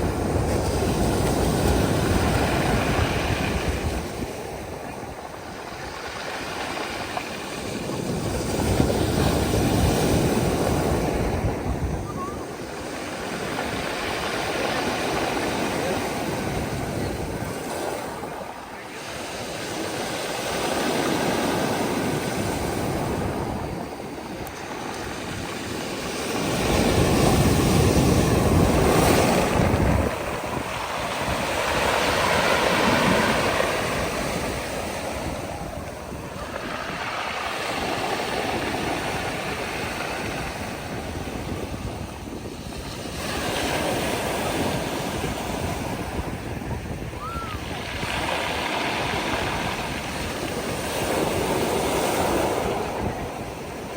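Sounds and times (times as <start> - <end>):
surf breaking on beach: 0.0 - 53.9.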